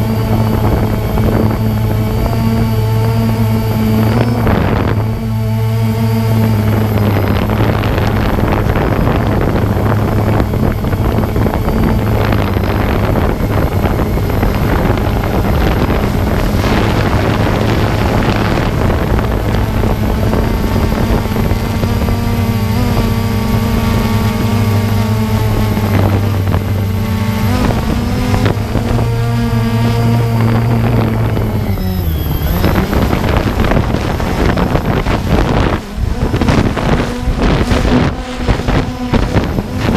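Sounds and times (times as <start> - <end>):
drone propellers buzzing: 0.0 - 39.9
wind rushing over microphone: 0.0 - 39.9.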